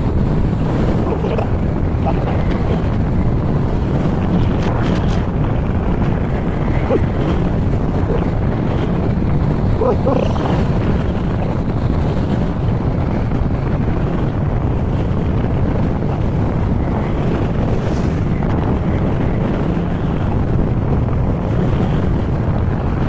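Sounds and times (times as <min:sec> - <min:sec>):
scooter engine and road rumble: 0:00.0 - 0:23.0
wind buffeting microphone: 0:00.0 - 0:23.0.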